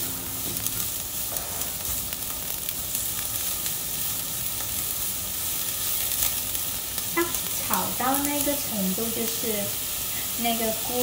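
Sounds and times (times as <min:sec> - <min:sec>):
mushrooms sizzling in frying pan: 0:00.0 - 0:11.0.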